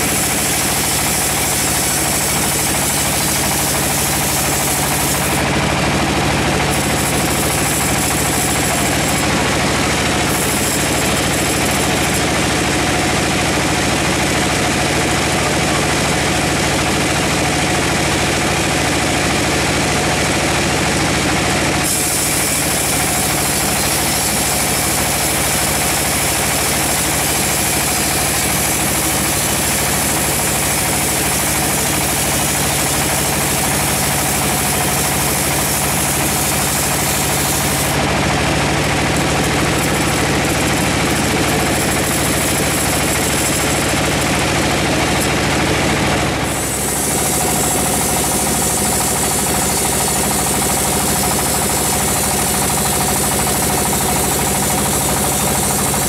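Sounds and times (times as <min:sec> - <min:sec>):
saw blade cutting wood: 0:00.0 - 0:16.2, 0:21.4 - 0:56.0
band saw machine hum: 0:00.0 - 0:56.0.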